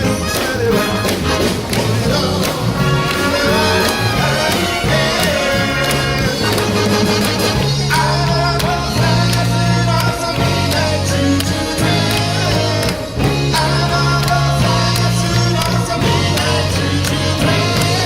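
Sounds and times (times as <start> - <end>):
big band jazz: 0.0 - 18.0.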